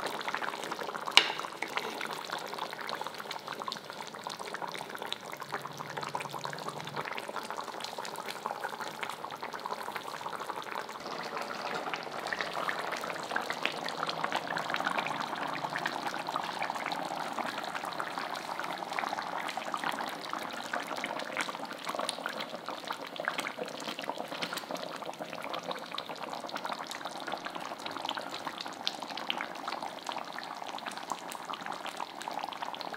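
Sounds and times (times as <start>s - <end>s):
curry bubbling in a pot: 0.0s - 32.9s.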